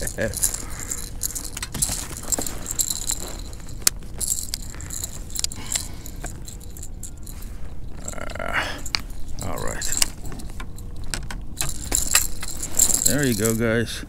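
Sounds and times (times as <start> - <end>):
fishing lure rattling: 0.0 - 13.8
low steady rumble: 0.0 - 14.0.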